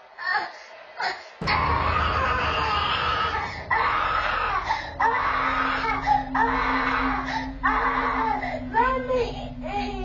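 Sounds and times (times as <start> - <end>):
steady low hum: 1.4 - 10.0
steady low noise: 1.4 - 10.0.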